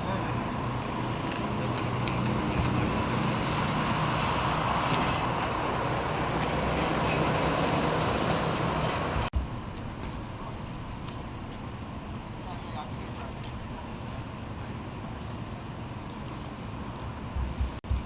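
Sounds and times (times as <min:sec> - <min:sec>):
street noise: 0:00.0 - 0:18.0
vehicle engine humming: 0:00.0 - 0:18.0.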